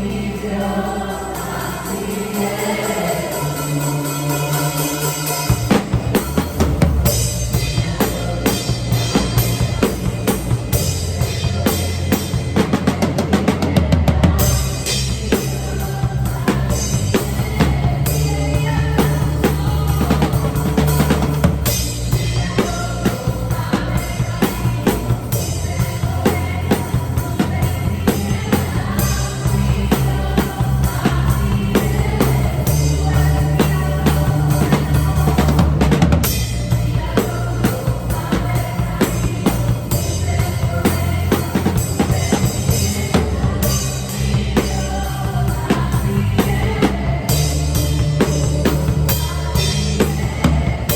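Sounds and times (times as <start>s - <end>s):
backing music with bass: 0.0s - 50.9s
drum kit playing: 0.0s - 50.9s.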